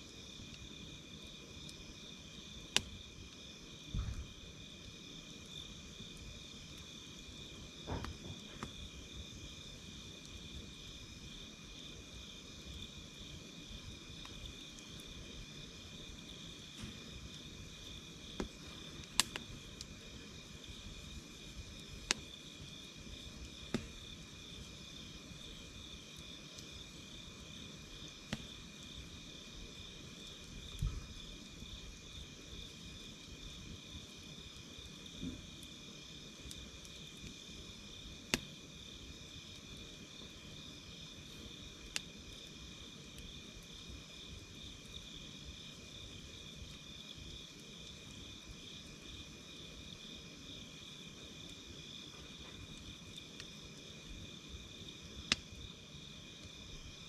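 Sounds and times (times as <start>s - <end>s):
campfire popping and crackling: 0.0s - 57.0s
crickets and insects trilling: 0.0s - 57.0s.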